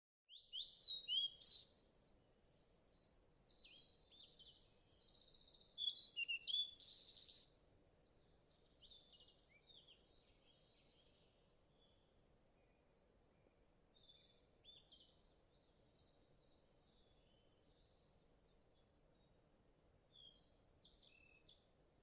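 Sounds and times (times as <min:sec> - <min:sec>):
faint outdoor background hiss: 0:00.3 - 0:22.0
small songbird singing: 0:00.3 - 0:22.0.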